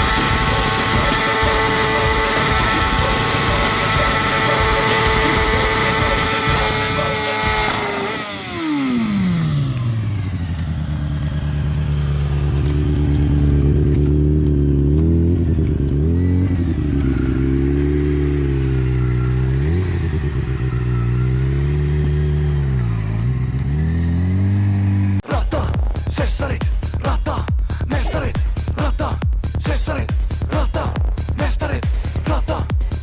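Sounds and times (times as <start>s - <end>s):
motorcycle engine revving and idling: 0.0s - 33.0s.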